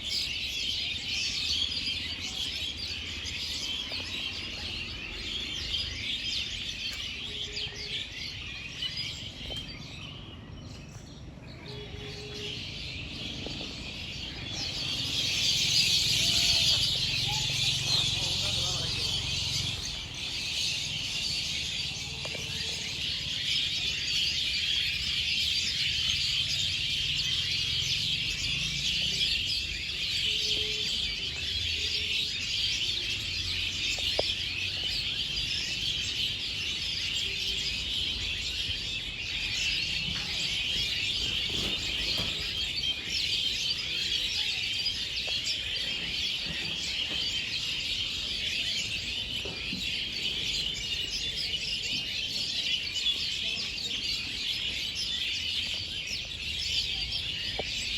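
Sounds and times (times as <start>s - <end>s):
small birds chirping and twittering: 0.0s - 57.9s.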